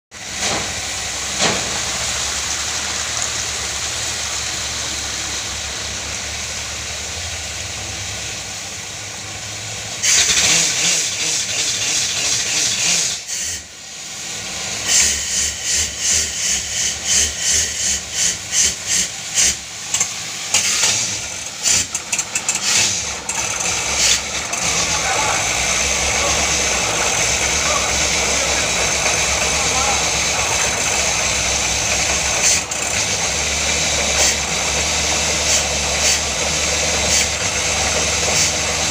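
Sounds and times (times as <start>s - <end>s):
drilling rig engine running: 0.1s - 38.9s
water slurry rushing hiss: 0.2s - 38.9s.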